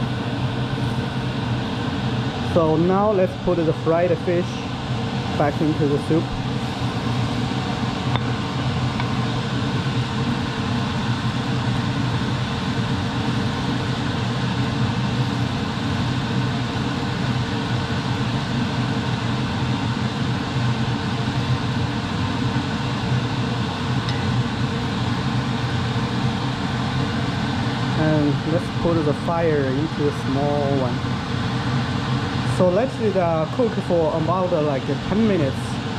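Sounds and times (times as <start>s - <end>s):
range hood fan running: 0.0s - 35.9s.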